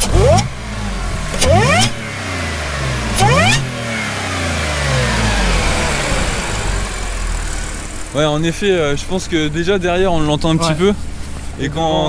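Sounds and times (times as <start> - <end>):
car engine revving: 0.0 - 12.0
supercharger whine: 0.0 - 12.0.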